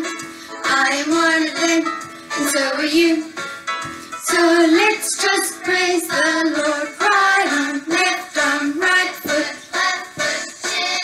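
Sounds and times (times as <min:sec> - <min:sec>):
musical accompaniment: 0:00.0 - 0:11.0.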